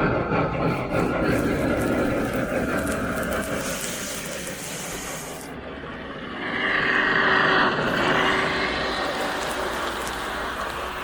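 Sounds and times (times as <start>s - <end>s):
model steam locomotive sounds: 0.0s - 11.0s
hiss of steam: 0.3s - 5.6s, 6.6s - 11.0s.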